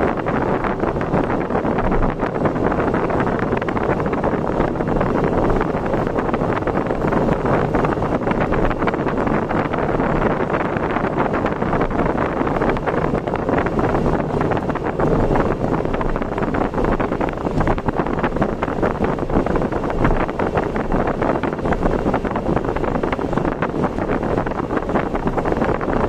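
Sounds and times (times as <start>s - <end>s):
road and engine noise: 0.0s - 26.0s
wind buffeting microphone: 0.0s - 26.0s.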